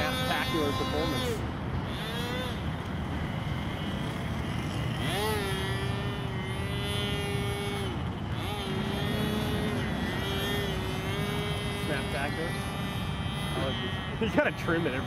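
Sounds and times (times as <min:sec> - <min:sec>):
model airplane engine whining: 0:00.0 - 0:15.0.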